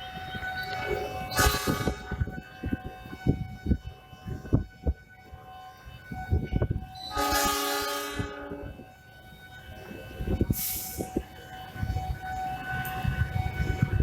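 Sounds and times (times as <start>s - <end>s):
train horn blast: 0.0s - 14.0s.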